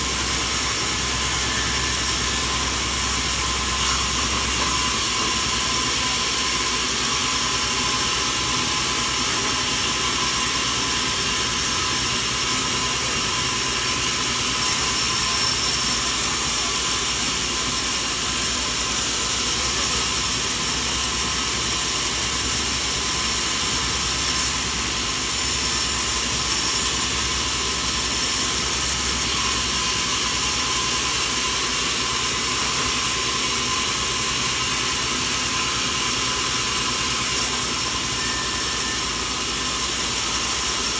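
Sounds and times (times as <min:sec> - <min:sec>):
sawmill machinery hiss and hum: 0:00.0 - 0:40.9.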